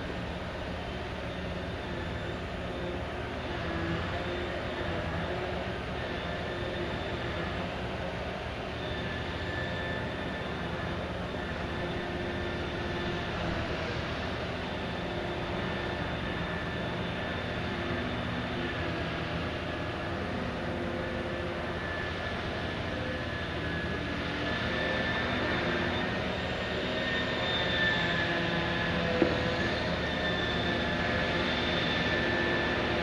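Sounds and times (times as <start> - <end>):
heavy machinery droning: 0.0 - 33.0.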